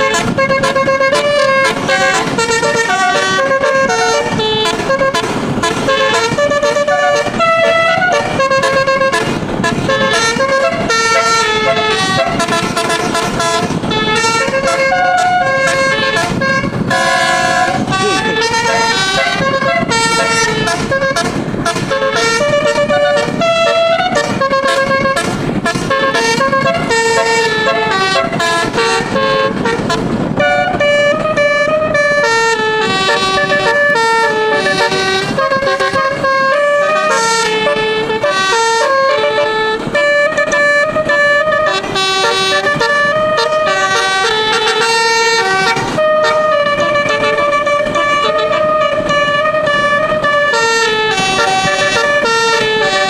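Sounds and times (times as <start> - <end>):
musical air horn tune: 0.0 - 53.0.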